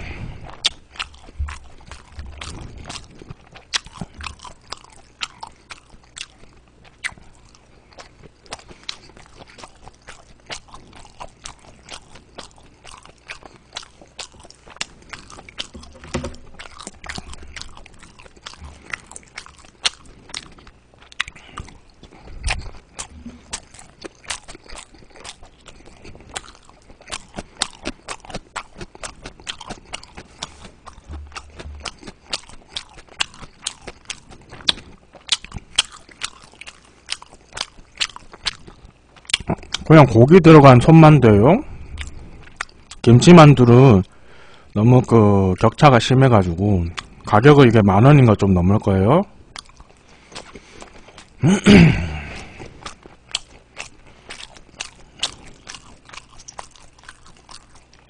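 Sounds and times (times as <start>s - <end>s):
person chewing with mouth smacks: 0.0s - 40.1s, 41.8s - 43.8s, 49.5s - 58.0s.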